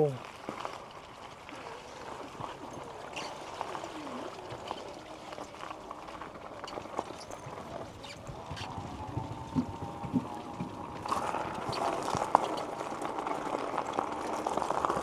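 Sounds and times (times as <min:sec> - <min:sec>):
floodwater running and trickling: 0:00.0 - 0:15.0.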